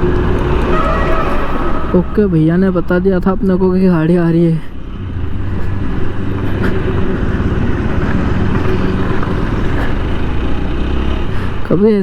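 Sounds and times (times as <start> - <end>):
motorcycle engine running: 0.0 - 3.5, 4.7 - 12.0
wind and road noise: 0.0 - 12.0.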